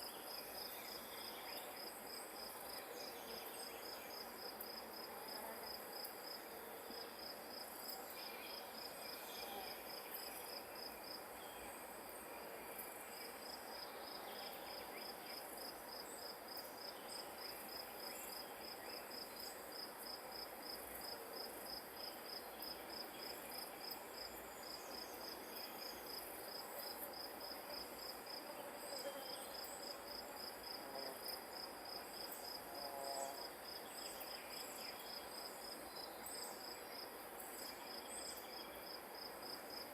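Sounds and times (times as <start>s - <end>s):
cricket chirping: 0.0s - 39.9s
soft outdoor hiss: 0.0s - 39.9s.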